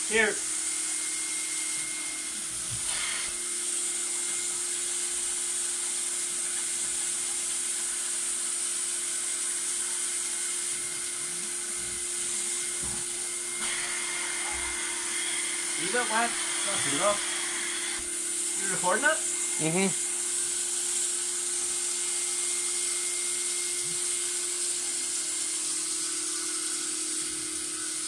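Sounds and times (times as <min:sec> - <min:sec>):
vacuum motor sucking air: 0:00.0 - 0:28.0.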